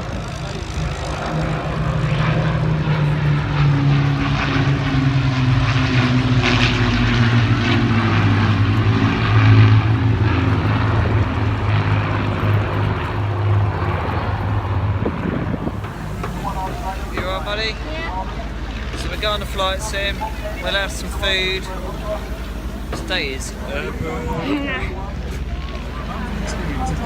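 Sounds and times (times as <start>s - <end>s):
propeller aircraft flying past: 0.0s - 27.0s.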